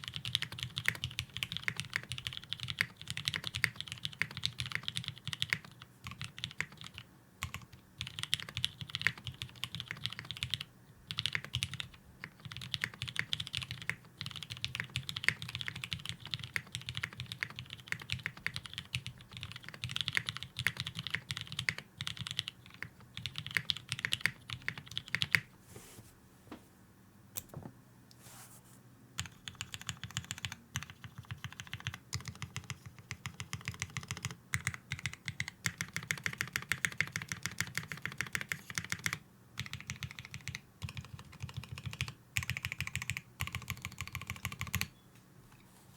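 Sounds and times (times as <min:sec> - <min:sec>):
mechanical keyboard typing: 0:00.0 - 0:25.5, 0:29.2 - 0:44.9.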